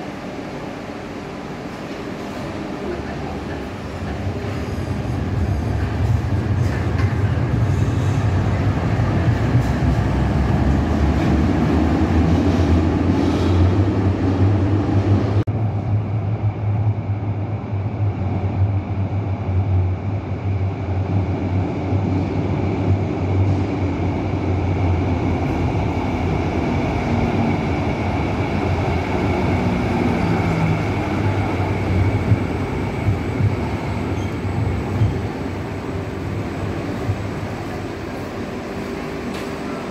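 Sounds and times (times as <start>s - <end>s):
tram wheels and motors rumbling: 0.0s - 39.9s.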